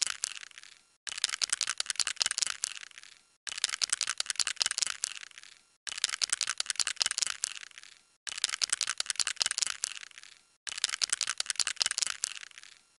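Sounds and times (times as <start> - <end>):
aerosol can ball rattling: 0.0 - 12.8.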